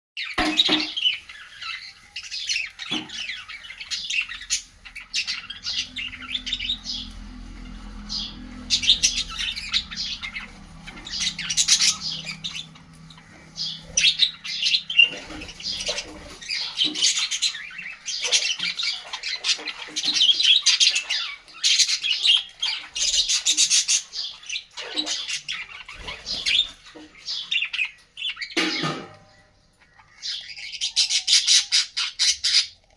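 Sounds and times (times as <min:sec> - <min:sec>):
parrots squawking and chirping: 0:00.2 - 0:32.9.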